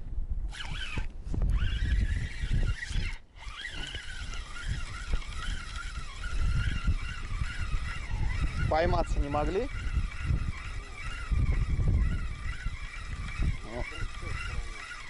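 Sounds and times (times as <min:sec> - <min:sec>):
wind buffeting microphone: 0:00.0 - 0:15.0
fishing reel gears whining: 0:00.5 - 0:15.0.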